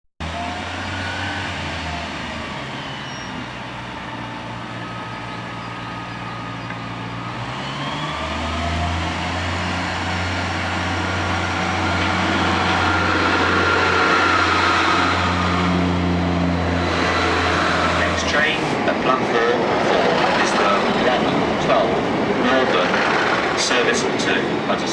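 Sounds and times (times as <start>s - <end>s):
diesel train engine revving: 0.2s - 24.9s.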